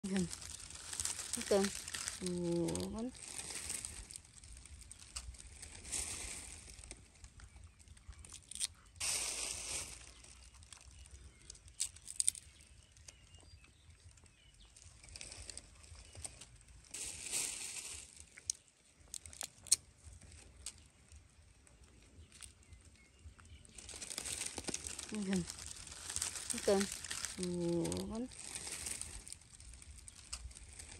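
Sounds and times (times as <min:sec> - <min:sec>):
dry leaves rustling: 0:00.0 - 0:30.9
twigs ticking: 0:00.0 - 0:30.9.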